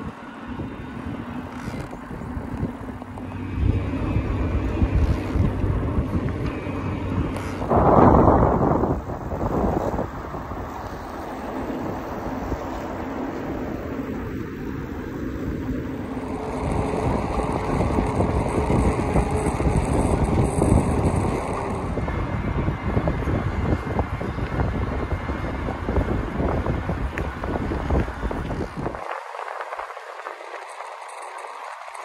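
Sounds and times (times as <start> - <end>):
bicycle road noise on asphalt: 0.0 - 32.0
wind buffeting microphone: 0.0 - 32.0.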